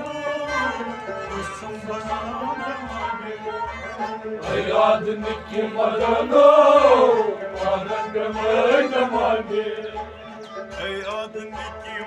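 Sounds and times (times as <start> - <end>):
harmonium drone: 0.0 - 12.0
men singing: 0.0 - 12.0.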